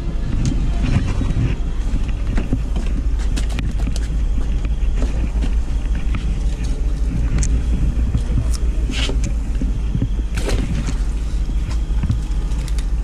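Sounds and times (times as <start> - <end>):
boat motor droning: 0.0 - 13.0.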